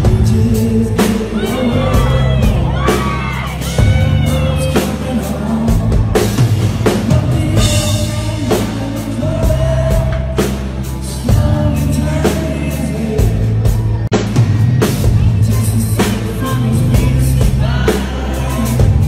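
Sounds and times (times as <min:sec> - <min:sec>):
man singing: 0:00.0 - 0:14.2, 0:15.0 - 0:19.0
country-rock band playing: 0:00.0 - 0:19.0.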